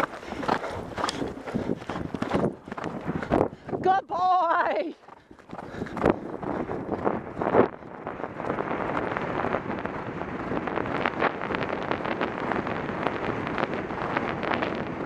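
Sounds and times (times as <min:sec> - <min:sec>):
horse hoofbeats: 0:00.0 - 0:13.2
wind buffeting microphone: 0:00.0 - 0:15.0.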